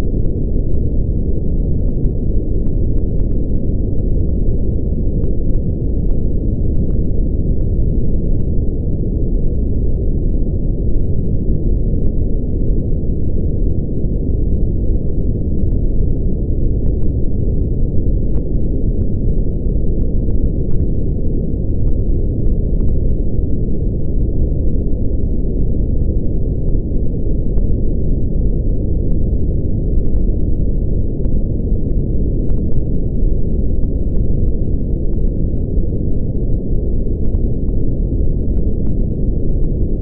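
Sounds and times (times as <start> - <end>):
deep brown noise rumble: 0.0 - 40.0.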